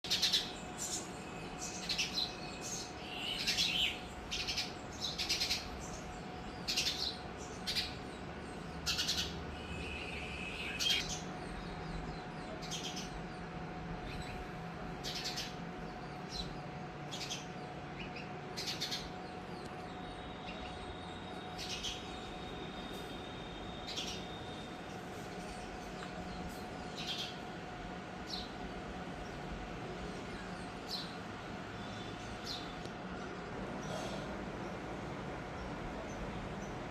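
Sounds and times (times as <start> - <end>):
faint steady hum: 0.0 - 36.9
sparrows chirping: 0.0 - 36.9.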